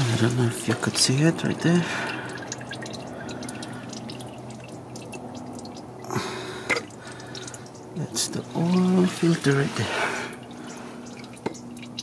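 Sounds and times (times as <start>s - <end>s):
oil dripping: 0.0s - 12.0s.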